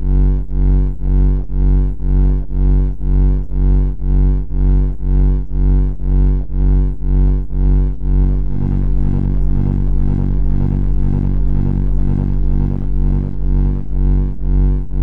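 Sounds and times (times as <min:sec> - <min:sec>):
harsh low buzzing tone: 0:00.0 - 0:15.0.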